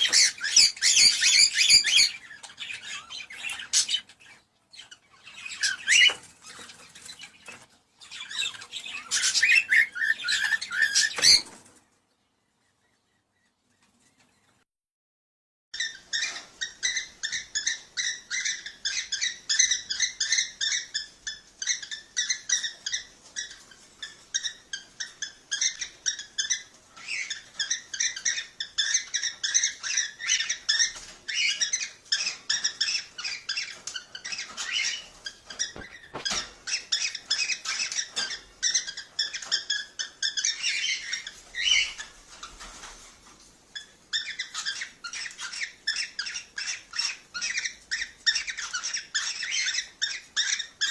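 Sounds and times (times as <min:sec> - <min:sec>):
cockatiels chirping: 0:00.0 - 0:11.7, 0:15.8 - 0:50.9.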